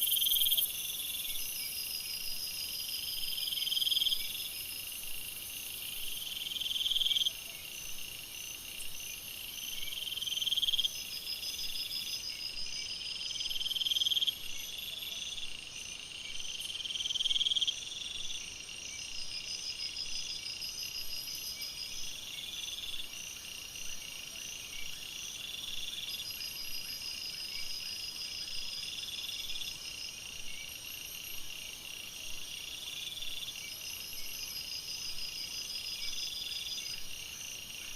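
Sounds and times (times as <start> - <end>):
insects and frogs trilling: 0.0 - 37.9.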